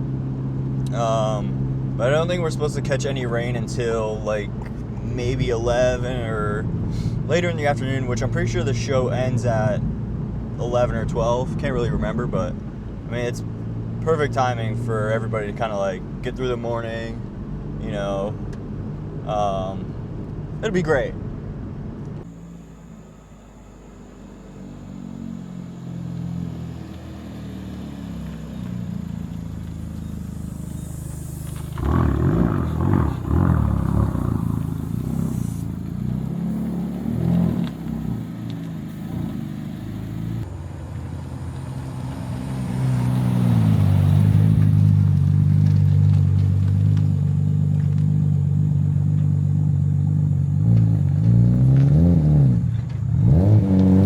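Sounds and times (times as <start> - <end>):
car engine and exhaust revving: 0.0 - 54.0.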